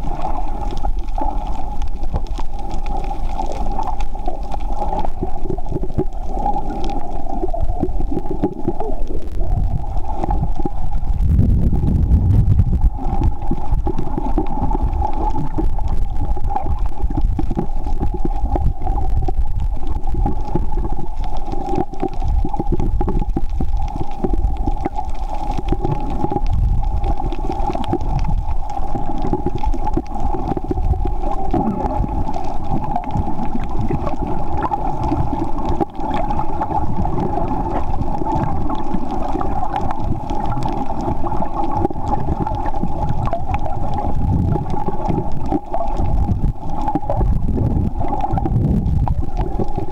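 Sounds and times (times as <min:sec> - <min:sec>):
light crackling: 0:00.0 - 0:49.9
muffled underwater rush: 0:00.0 - 0:49.9.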